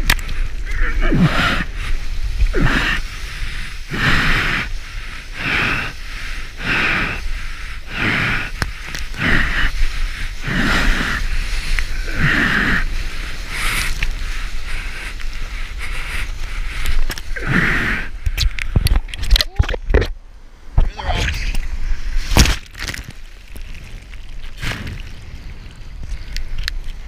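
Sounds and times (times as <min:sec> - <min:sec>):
wind on microphone: 0:00.0 - 0:22.5.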